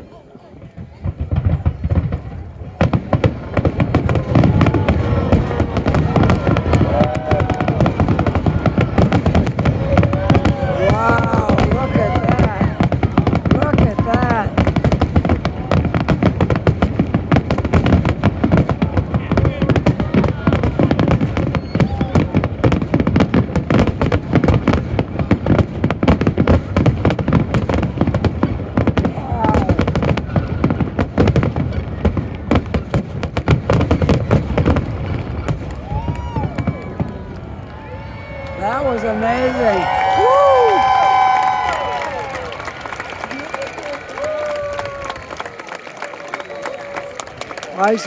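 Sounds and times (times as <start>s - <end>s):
firework bangs and crackles: 0.0s - 48.0s.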